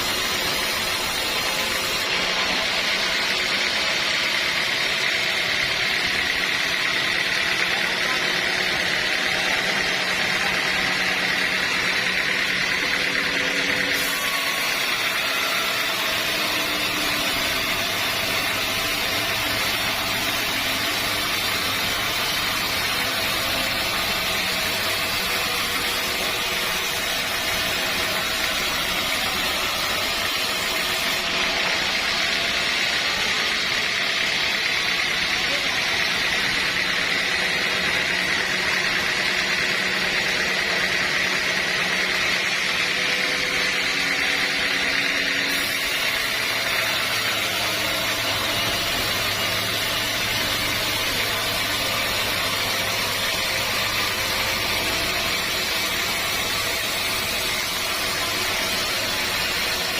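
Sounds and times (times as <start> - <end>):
saw cutting wood: 0.0 - 59.9.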